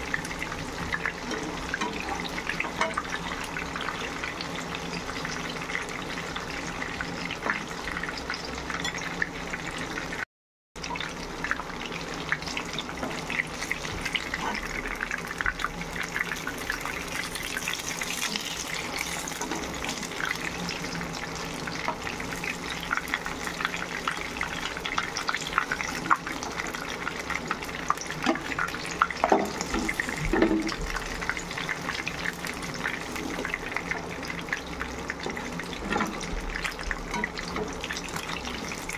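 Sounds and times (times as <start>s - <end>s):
fish frying in hot oil: 0.0s - 38.9s.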